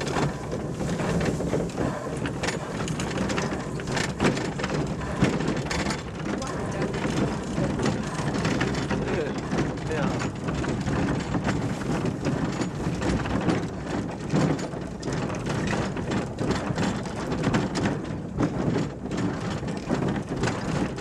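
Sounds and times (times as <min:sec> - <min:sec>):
train wagon wheels rattling: 0:00.0 - 0:21.0.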